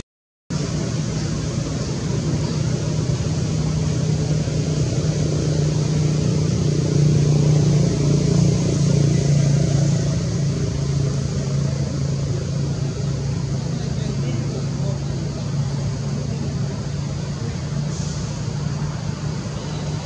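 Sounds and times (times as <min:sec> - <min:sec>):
low engine drone: 0:00.5 - 0:20.0.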